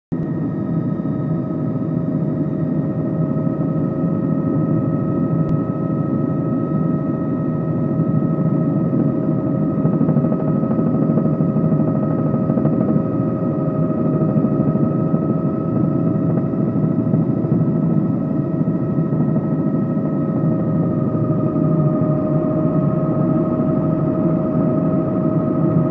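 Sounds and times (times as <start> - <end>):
helicopter rotor rumble: 0.1 - 25.9
helicopter turbine whine: 0.1 - 25.9.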